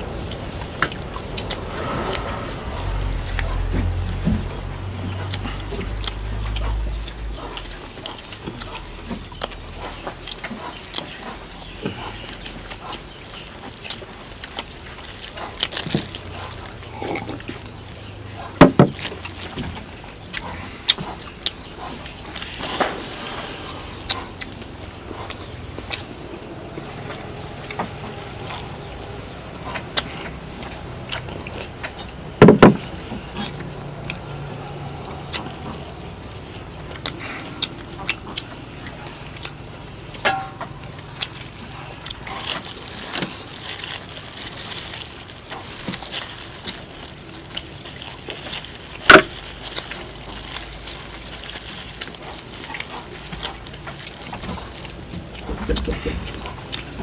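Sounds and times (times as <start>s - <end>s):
people chewing and tearing meat: 0.0s - 57.0s.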